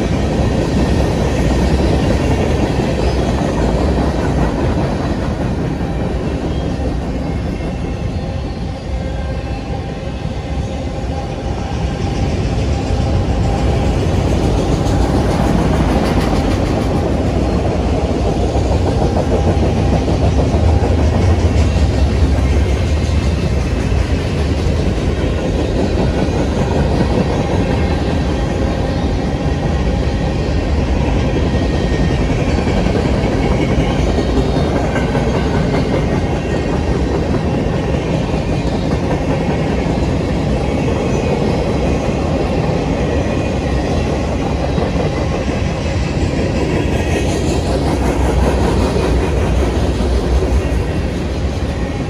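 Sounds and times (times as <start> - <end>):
steel wheels rumbling on rails: 0.0 - 52.0.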